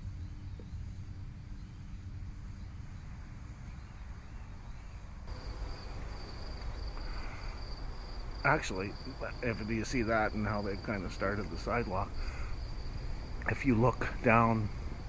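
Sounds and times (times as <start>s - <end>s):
crickets chirring: 0.0s - 15.0s
faint insect trill: 0.0s - 15.0s
low steady rumble: 0.0s - 15.0s.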